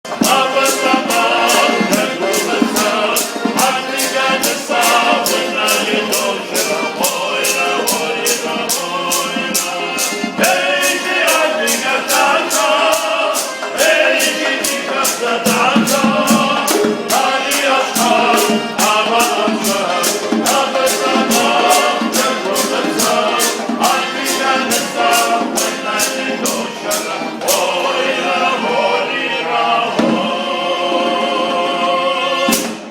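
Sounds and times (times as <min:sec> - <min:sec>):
group of voices singing: 0:00.0 - 0:32.9
steady percussive beat: 0:00.1 - 0:28.9.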